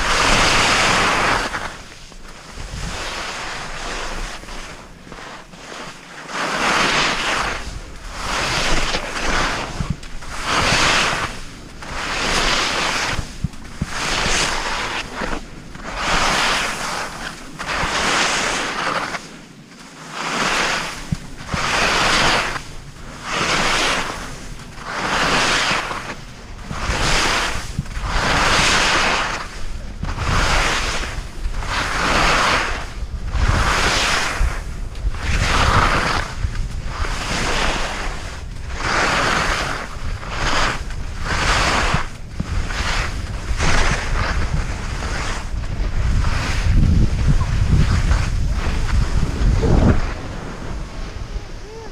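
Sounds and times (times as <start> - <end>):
skis scraping across snow: 0.0 - 51.9
wind rumble on microphone: 0.0 - 51.9.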